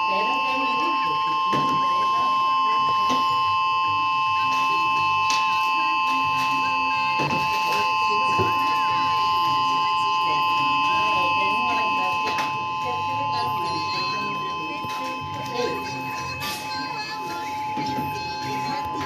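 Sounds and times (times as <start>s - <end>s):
faint voices talking: 0.0s - 19.0s
warning siren steady tone: 0.0s - 19.0s.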